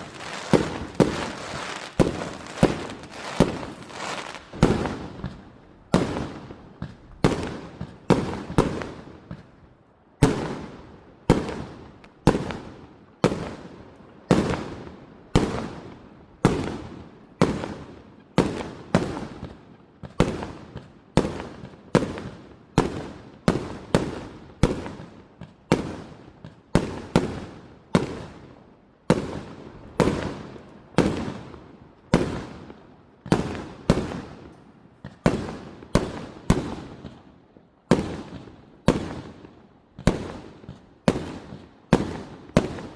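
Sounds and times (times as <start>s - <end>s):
fireworks bangs echoing: 0.0s - 9.5s, 10.2s - 42.9s.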